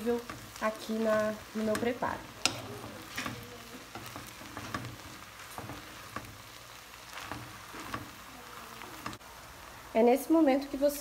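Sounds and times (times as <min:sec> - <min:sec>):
wooden spatula scraping a pot: 0:00.0 - 0:09.2
meat sizzling in a pot: 0:00.0 - 0:11.0.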